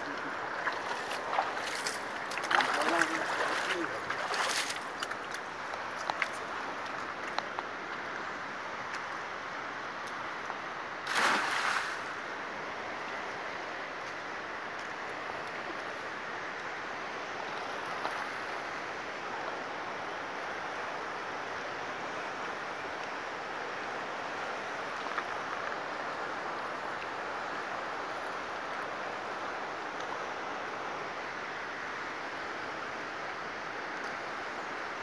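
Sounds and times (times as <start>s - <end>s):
river rushing over rocks: 0.0s - 35.0s.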